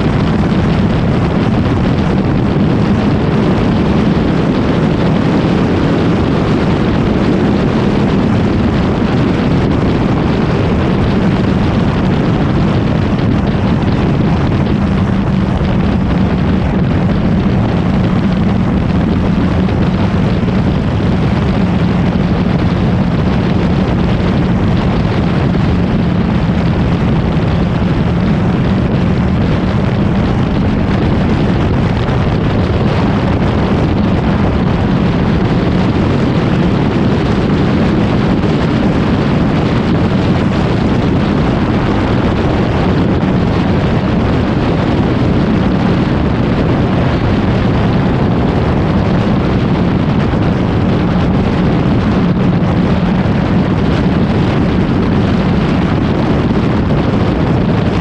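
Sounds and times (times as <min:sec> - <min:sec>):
motorcycle engine hum: 0:00.0 - 0:58.0
wind rush on microphone: 0:00.0 - 0:58.0.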